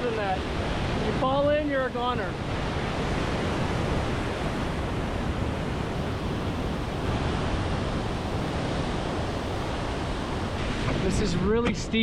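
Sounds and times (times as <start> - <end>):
river whitewater rushing: 0.0 - 12.0.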